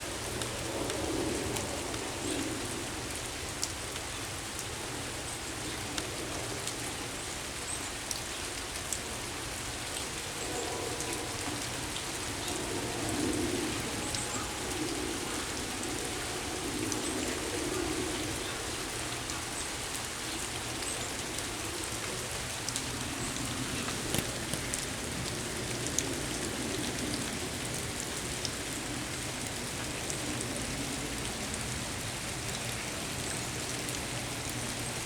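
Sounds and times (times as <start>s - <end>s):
raindrops ticking close by: 0.0s - 35.0s
steady rain falling: 0.0s - 35.0s.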